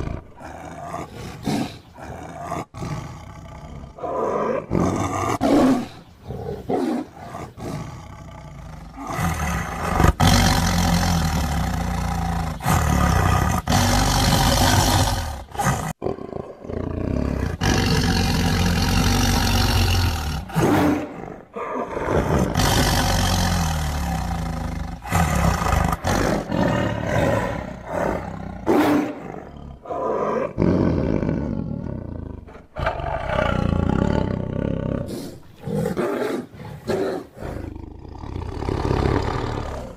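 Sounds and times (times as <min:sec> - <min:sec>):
tiger roaring: 0:00.0 - 0:39.9.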